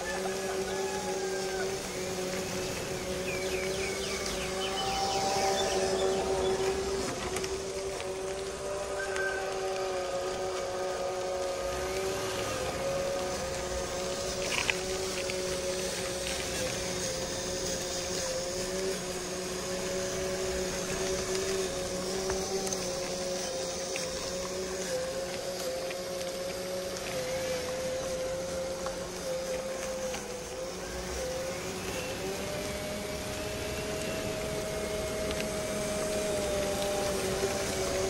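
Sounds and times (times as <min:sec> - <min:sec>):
electric motor and gearbox whining: 0:00.0 - 0:38.0.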